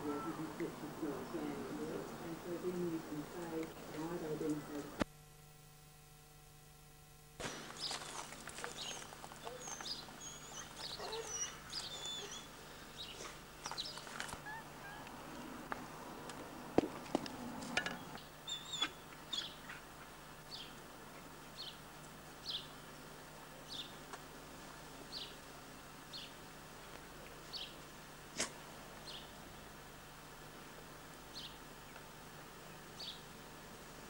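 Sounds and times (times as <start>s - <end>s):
garden birds chirping: 0.0s - 5.1s, 7.4s - 34.0s.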